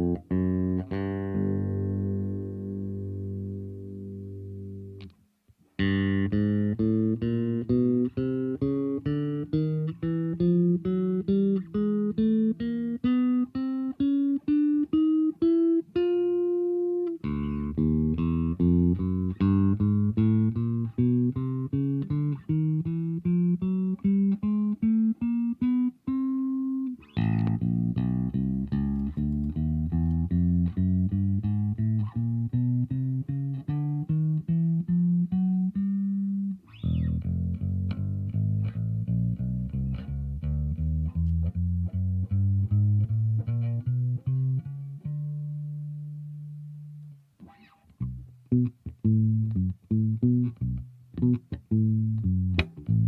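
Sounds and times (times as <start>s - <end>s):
electric bass guitar notes: 0.0s - 5.2s, 5.8s - 53.0s.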